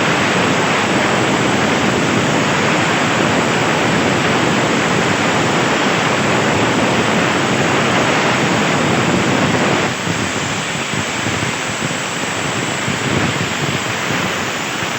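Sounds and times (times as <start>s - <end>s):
plasma torch hissing: 0.1s - 14.9s.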